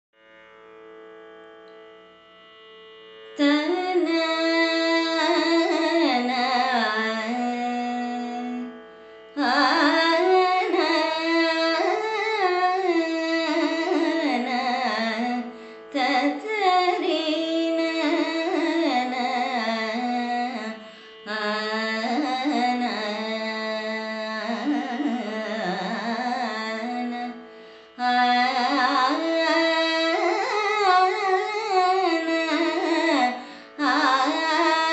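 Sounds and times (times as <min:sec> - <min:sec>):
woman singing ornamented phrases: 0:03.4 - 0:08.7, 0:09.4 - 0:27.4, 0:28.0 - 0:34.9.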